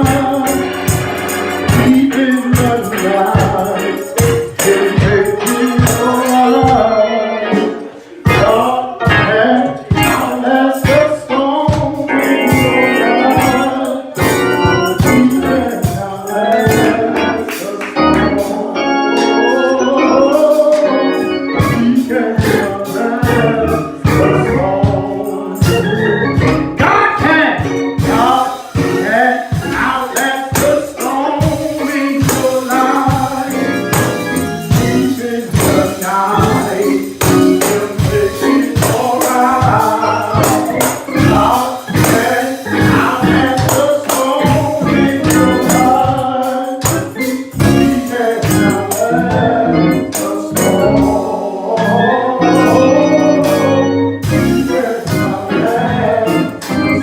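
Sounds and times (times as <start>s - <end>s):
gospel music led by organ: 0.0s - 57.0s.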